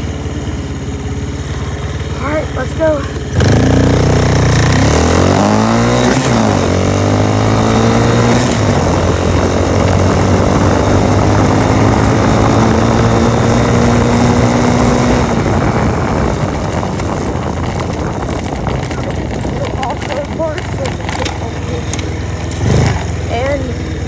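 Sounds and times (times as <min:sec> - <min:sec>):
small engine accelerating hard: 0:00.0 - 0:24.0.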